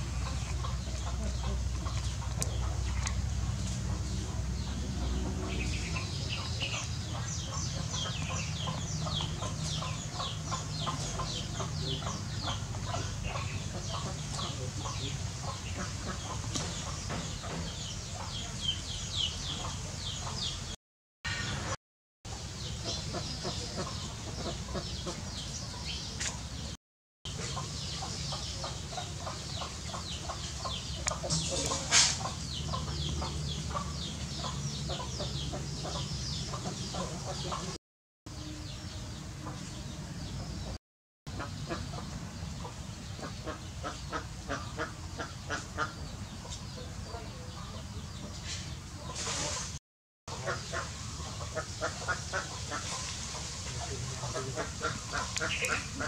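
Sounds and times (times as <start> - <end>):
hens clucking: 0.0 - 20.7, 22.6 - 26.4, 27.3 - 37.8, 41.3 - 56.0.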